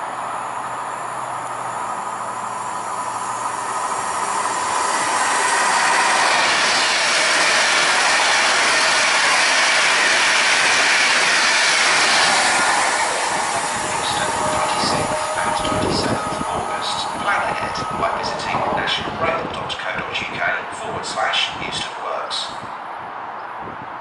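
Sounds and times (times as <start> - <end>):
electric train passing: 0.0 - 23.4.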